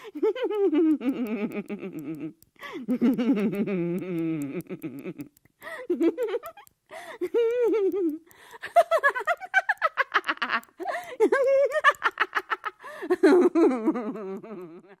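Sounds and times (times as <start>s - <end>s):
man and woman laughing: 0.0s - 3.9s, 4.6s - 15.0s.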